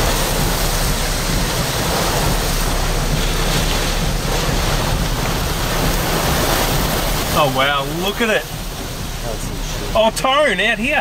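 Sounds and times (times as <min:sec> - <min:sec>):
strong wind: 0:00.0 - 0:10.8
rain: 0:00.0 - 0:11.0
wind buffeting microphone: 0:00.0 - 0:11.0.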